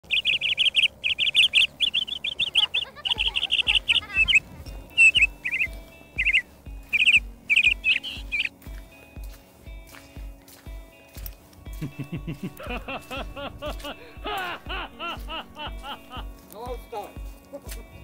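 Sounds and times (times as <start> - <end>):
birds chirping: 0.0 - 18.0
music with low beat: 2.9 - 18.0.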